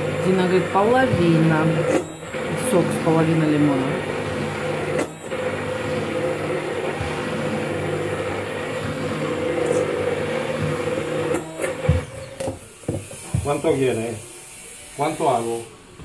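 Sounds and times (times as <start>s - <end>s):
immersion blender running: 0.0s - 15.8s.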